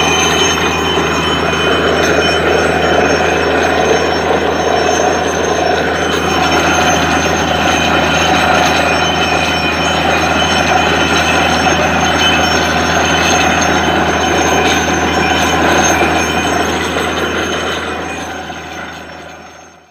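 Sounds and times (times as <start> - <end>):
drilling rig din: 0.0 - 19.9.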